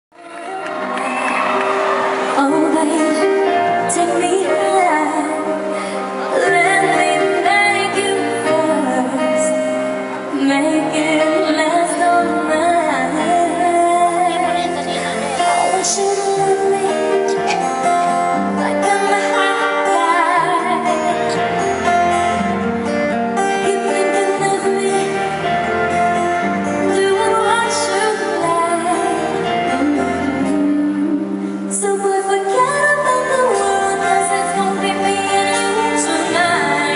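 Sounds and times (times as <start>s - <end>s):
instrumental accompaniment: 0.1s - 36.9s
live pop band playing: 0.1s - 36.9s
woman singing: 2.2s - 22.1s, 23.4s - 36.9s.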